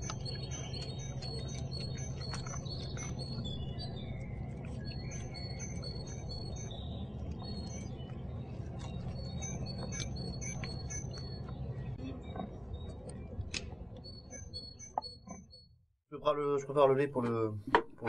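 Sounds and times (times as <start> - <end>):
steady low rumble: 0.0 - 14.8
songbirds chirping: 0.0 - 15.4.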